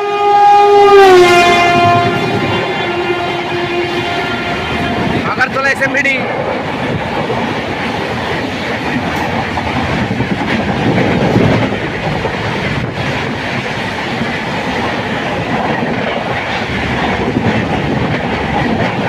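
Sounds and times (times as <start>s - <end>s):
train wheels clattering on rails: 1.6s - 19.0s.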